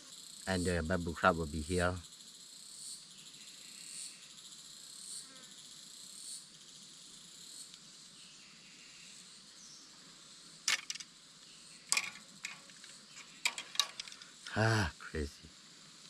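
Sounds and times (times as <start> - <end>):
insects buzzing in chorus: 0.0 - 16.0.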